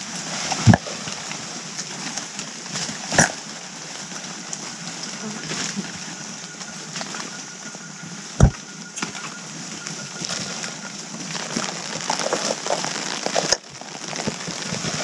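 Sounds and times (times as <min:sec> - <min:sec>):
forest background hiss: 0:00.0 - 0:15.0.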